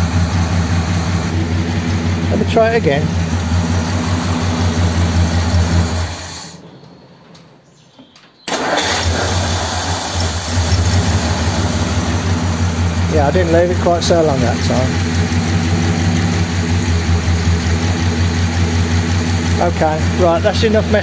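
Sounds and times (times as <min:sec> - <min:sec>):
car engine running: 0:00.0 - 0:06.6, 0:08.6 - 0:21.0
car engine restarting: 0:00.0 - 0:07.1, 0:08.5 - 0:21.0.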